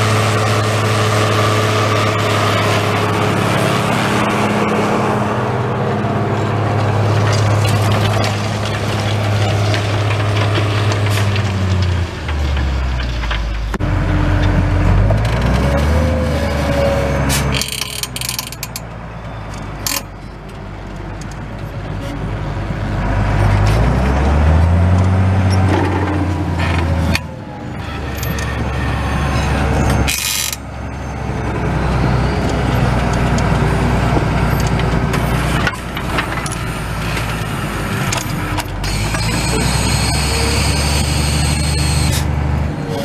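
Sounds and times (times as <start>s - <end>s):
tractor diesel engine working: 0.0s - 43.0s.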